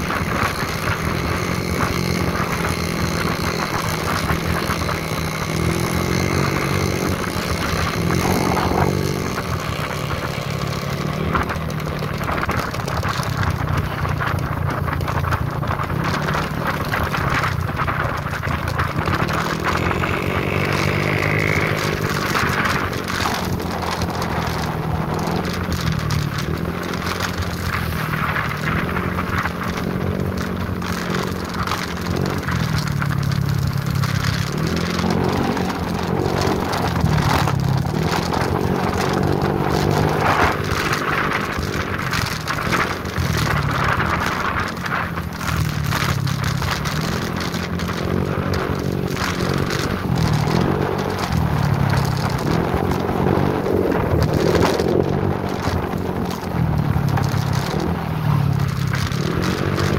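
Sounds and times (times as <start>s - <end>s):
motorcycle engine revving: 0.0s - 59.9s
wind buffeting microphone: 0.0s - 59.9s.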